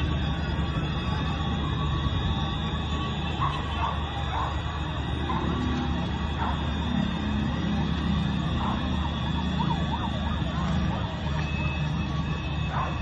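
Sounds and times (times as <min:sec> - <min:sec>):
emergency siren wailing: 0:00.0 - 0:13.0
low rumble of street noise: 0:00.0 - 0:13.0.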